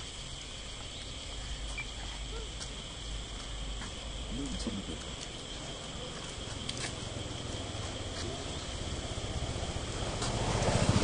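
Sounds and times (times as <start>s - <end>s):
insects buzzing: 0.0s - 11.0s
vehicle engine rumble approaching: 0.0s - 11.0s.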